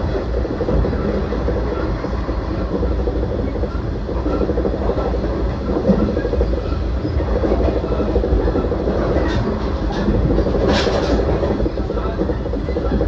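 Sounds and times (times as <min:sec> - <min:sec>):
clickety-clack of rail joints: 0:00.0 - 0:13.0
train wheels rumbling on rail: 0:00.0 - 0:13.0.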